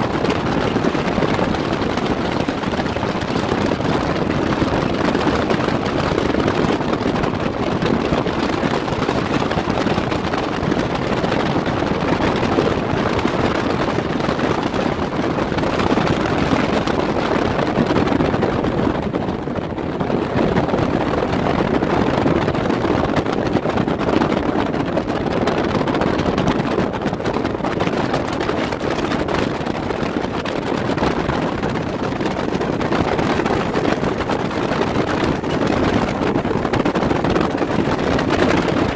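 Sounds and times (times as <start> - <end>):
outboard motor: 0.0 - 38.9
wind rushing on microphone: 0.0 - 38.9.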